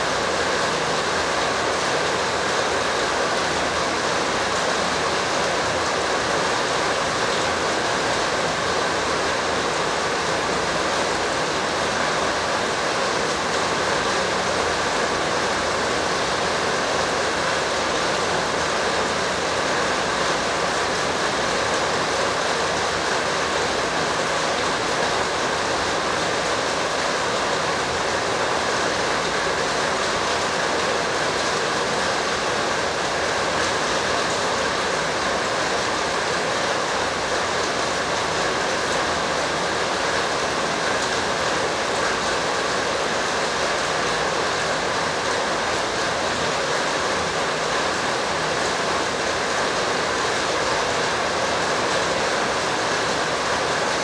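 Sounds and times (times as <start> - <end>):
loud steady rushing noise: 0.0 - 54.0.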